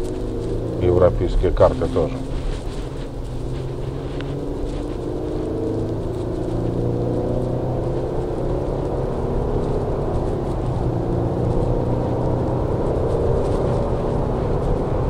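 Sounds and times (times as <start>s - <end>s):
car engine running in cabin: 0.0s - 15.0s
tyre and road noise: 0.0s - 15.0s.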